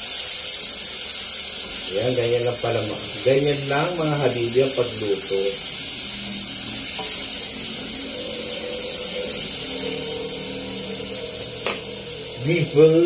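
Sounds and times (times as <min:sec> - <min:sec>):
onion sizzling in hot oil: 0:00.0 - 0:13.0
faint hum: 0:01.6 - 0:13.0.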